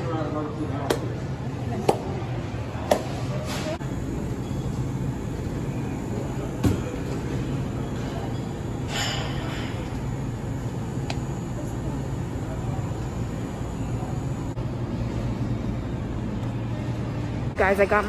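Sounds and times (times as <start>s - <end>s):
steady low hum: 1.0s - 18.0s.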